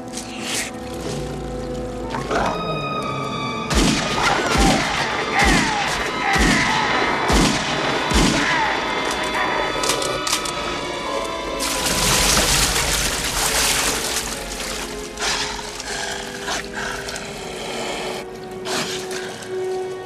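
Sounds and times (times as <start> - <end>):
dramatic film music with held tones: 0.0 - 20.0.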